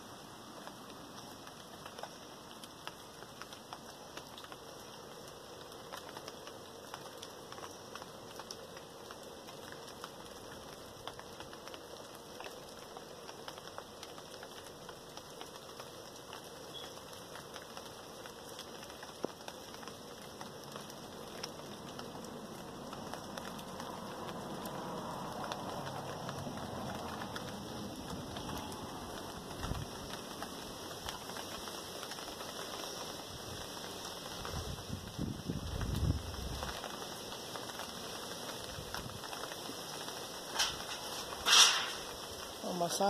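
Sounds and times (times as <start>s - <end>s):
rain hissing: 0.0s - 43.0s
raindrops pattering on surfaces: 0.0s - 43.0s.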